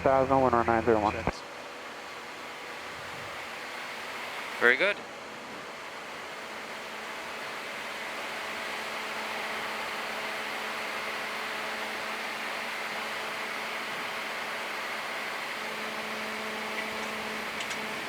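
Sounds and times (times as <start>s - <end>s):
airflow around cockpit: 0.0s - 18.0s
faint steady hum: 0.0s - 18.0s.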